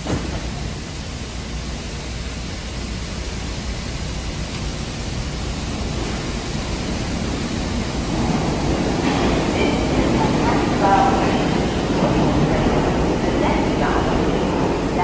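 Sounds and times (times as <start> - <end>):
train ventilation hiss and rumble: 0.0 - 15.0.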